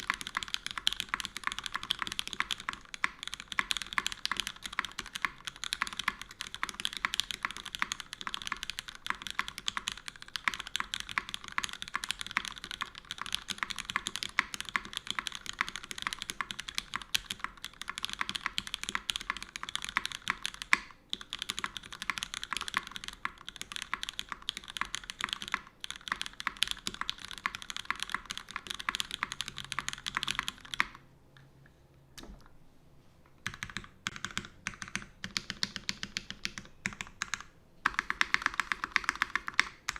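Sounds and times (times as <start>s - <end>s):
fast typing on mechanical keyboard: 0.0s - 31.0s, 33.4s - 39.9s.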